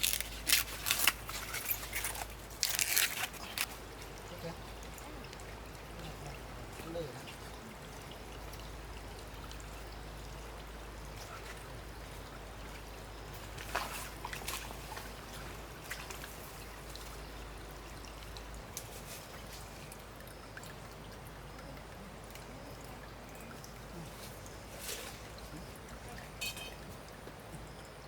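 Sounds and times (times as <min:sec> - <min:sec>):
trickle of running water: 0:00.0 - 0:28.0.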